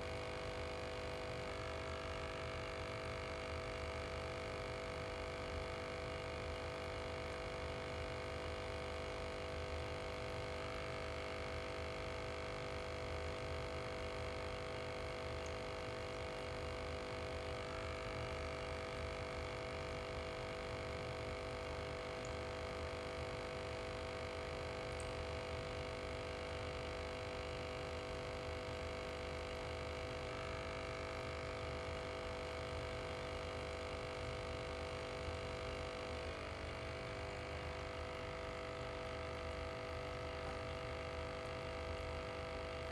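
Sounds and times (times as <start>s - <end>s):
aquarium air pump humming: 0.0s - 42.9s.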